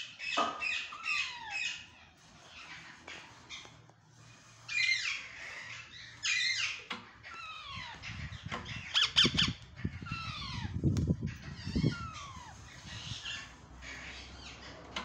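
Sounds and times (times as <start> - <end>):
parakeets squawking and calling: 0.0 - 15.0.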